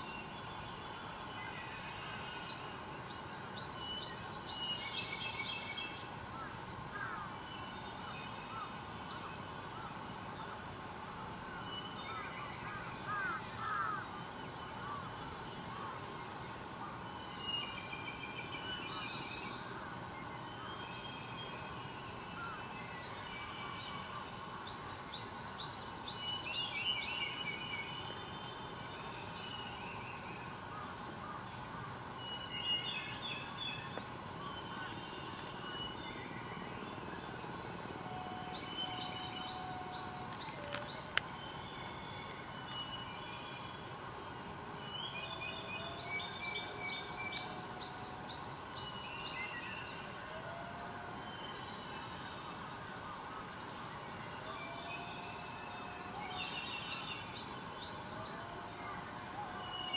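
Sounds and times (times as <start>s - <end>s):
songbirds singing: 0.0s - 44.1s, 44.8s - 50.4s, 51.1s - 59.9s.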